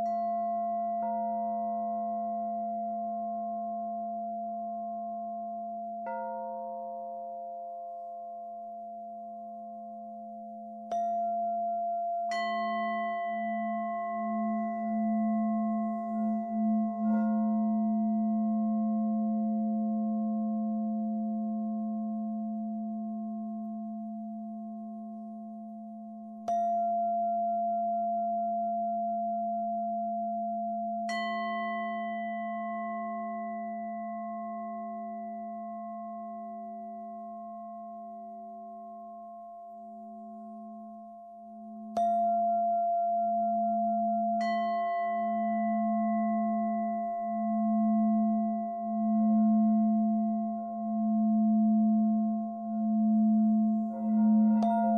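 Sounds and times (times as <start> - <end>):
singing bowl ringing tones: 0.0 - 54.9.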